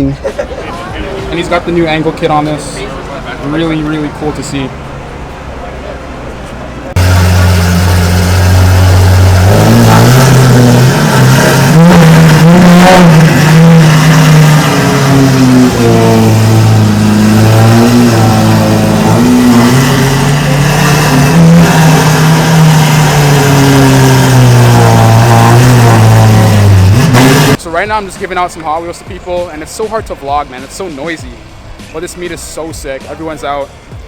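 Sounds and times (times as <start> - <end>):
car engine revving: 0.6 - 34.0.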